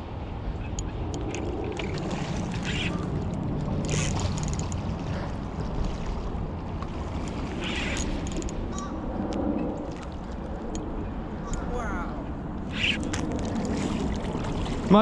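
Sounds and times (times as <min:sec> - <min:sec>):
rushing river water: 0:01.2 - 0:15.0.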